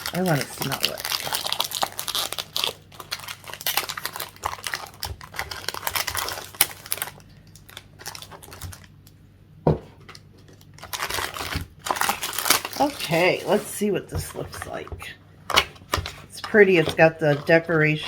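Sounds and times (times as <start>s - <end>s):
packaging clicks and rustles: 0.0s - 9.1s, 10.0s - 14.9s, 15.5s - 18.0s.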